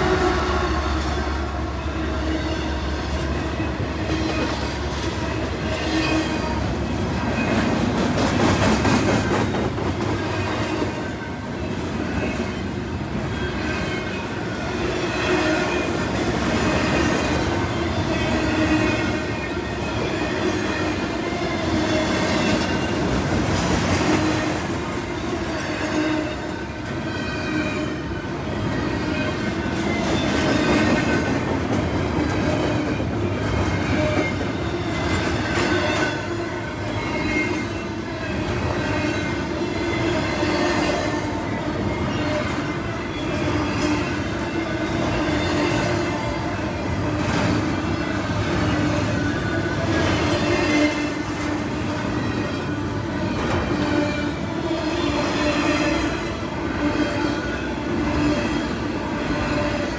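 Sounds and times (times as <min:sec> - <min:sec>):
train cars rolling: 0:00.0 - 0:59.9.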